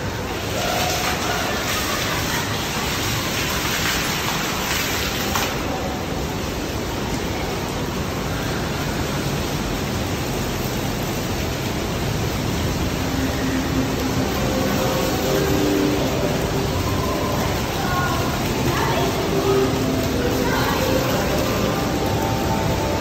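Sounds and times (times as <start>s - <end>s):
fountain jets splashing: 0.0s - 23.0s
waterfalls rushing: 0.0s - 23.0s.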